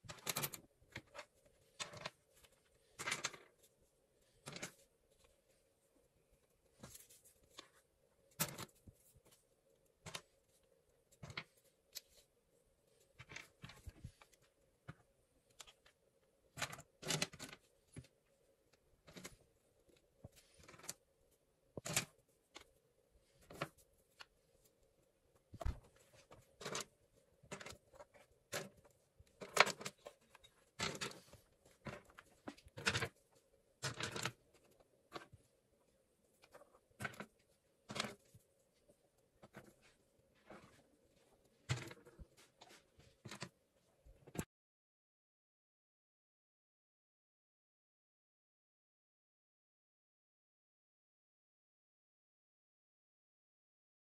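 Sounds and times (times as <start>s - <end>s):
objects being handled: 0.0s - 44.5s.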